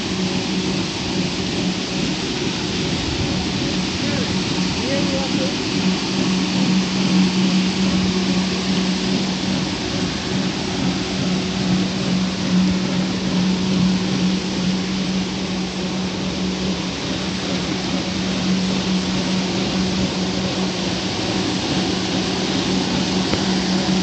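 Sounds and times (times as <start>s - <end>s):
motor hum: 0.0s - 24.0s
paddles splashing water: 0.0s - 24.0s.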